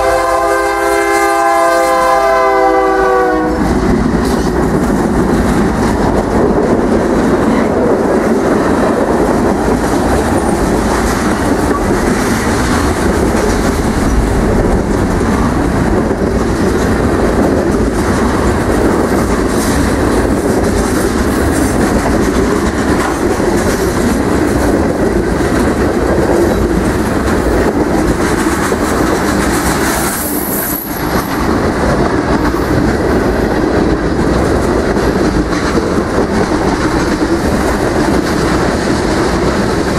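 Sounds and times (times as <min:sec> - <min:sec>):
freight train rumbling past: 0:00.0 - 0:39.9
train wheels clacking on rails: 0:00.0 - 0:39.9.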